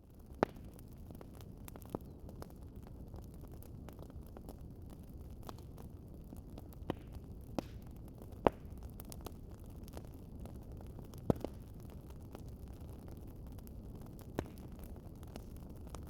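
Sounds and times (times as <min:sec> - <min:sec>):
fire popping: 0:00.0 - 0:16.0
low rumble of flames: 0:00.0 - 0:16.0.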